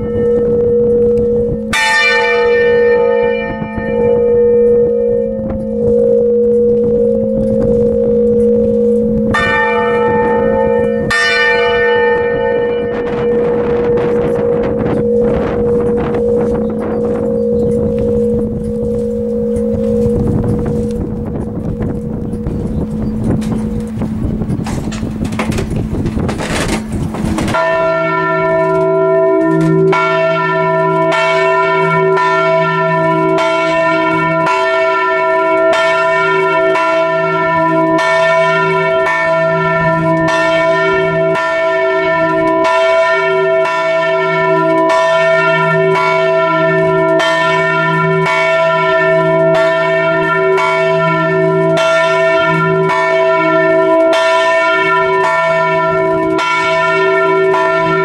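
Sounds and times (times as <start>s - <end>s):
church bell ringing: 0.0s - 58.0s.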